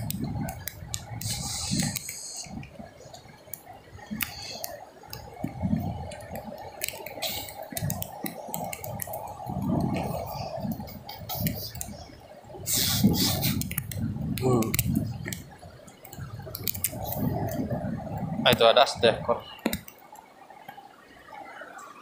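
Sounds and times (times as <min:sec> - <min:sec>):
sharp ticks: 0:00.0 - 0:17.7.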